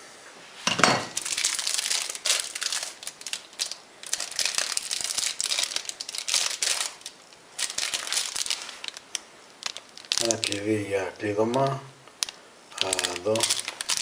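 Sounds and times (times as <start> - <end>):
packaging crinkling and rustling: 1.1 - 14.0
packaging tearing: 1.2 - 10.8, 11.5 - 14.0.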